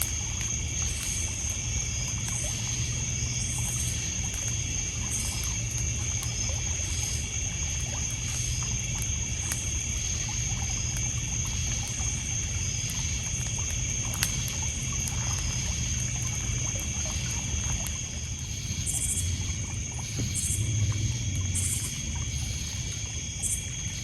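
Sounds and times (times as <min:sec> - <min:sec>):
insects trilling: 0:00.0 - 0:24.0
low steady rumble: 0:00.0 - 0:24.0
water lapping on pebble shore: 0:00.0 - 0:24.0
wood fire crackling: 0:00.0 - 0:24.0.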